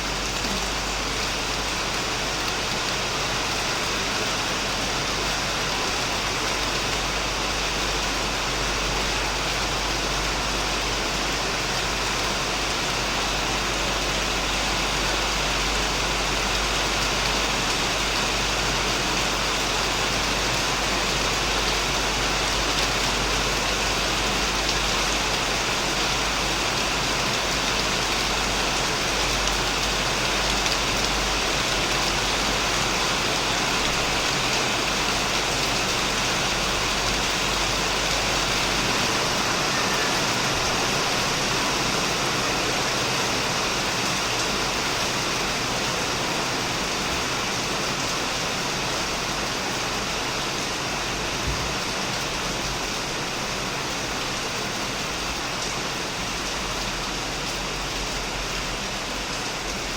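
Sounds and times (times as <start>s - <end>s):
heavy rain on shed roof: 0.0s - 59.9s.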